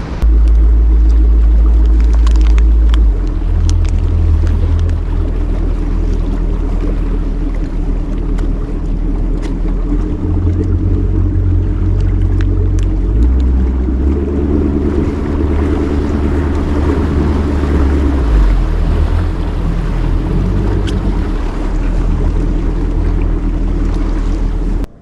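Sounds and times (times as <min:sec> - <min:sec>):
outboard motor drone: 0:00.0 - 0:25.0
wind noise on microphone: 0:00.0 - 0:25.0.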